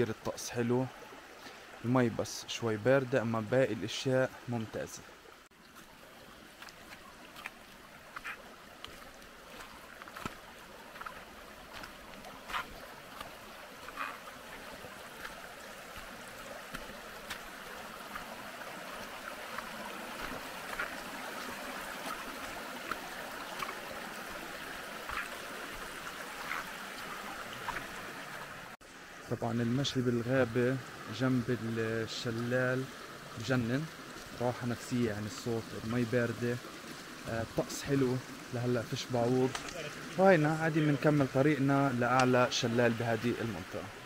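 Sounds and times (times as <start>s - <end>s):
stream running over rocks: 0.0s - 44.0s.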